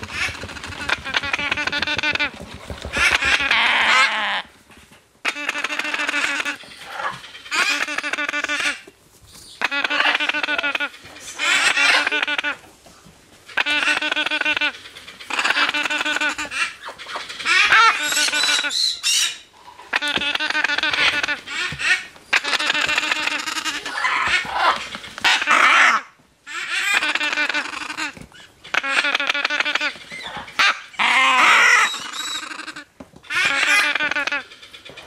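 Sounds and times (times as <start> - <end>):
parrot chicks begging cries: 0.0 - 2.3, 2.9 - 4.5, 5.2 - 8.8, 9.6 - 12.6, 13.5 - 35.0.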